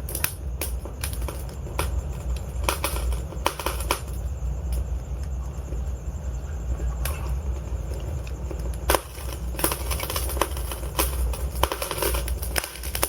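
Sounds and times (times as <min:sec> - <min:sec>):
flames rumbling: 0:00.0 - 0:13.0
wood crackling and popping: 0:00.0 - 0:13.0.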